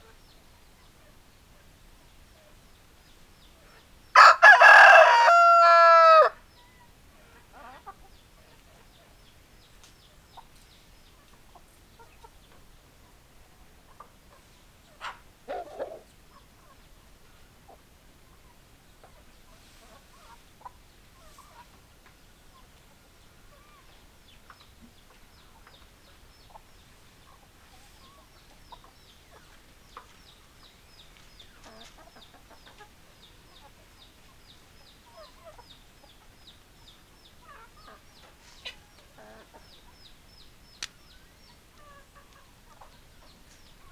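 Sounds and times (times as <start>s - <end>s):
chickens clucking quietly: 0.0s - 43.9s.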